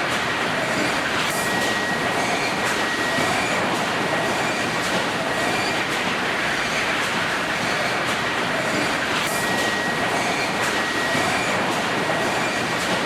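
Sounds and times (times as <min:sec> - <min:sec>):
clatter of conveyors and rollers: 0:00.0 - 0:13.0.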